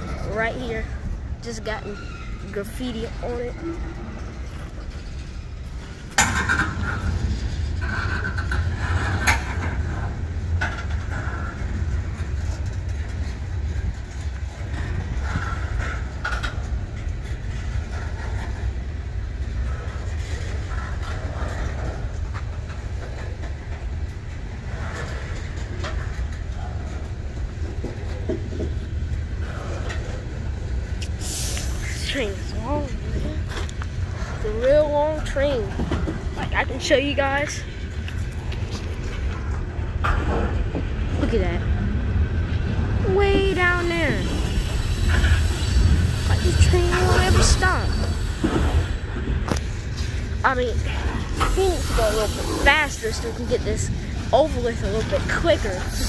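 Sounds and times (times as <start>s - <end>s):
train clanks and squeals: 0.0s - 56.0s
train wheels rumbling on rail: 0.0s - 56.0s.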